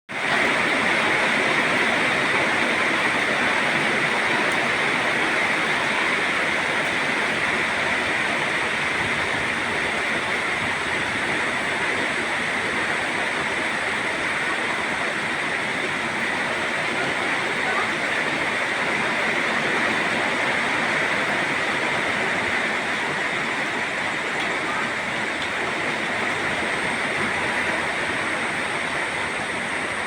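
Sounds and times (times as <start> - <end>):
steady downpour of rain: 0.1 - 30.0.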